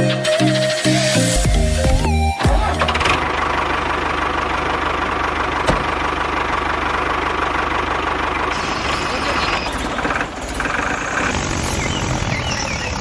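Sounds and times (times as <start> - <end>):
engine idling: 1.3 - 13.0.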